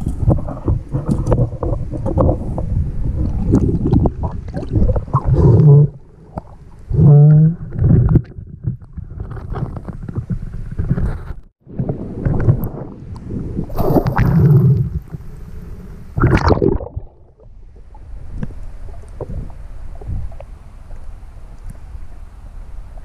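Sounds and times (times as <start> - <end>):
water sloshing and gurgling: 0.0 - 21.8.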